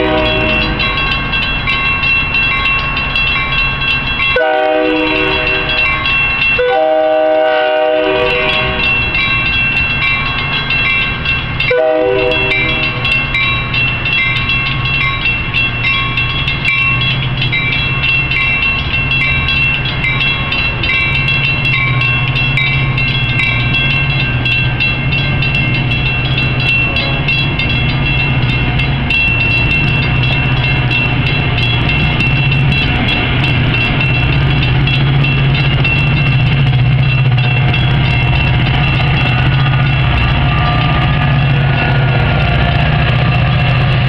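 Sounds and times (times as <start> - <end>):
steady high tone: 0.0 - 44.0
train cars rumbling past: 0.0 - 44.0.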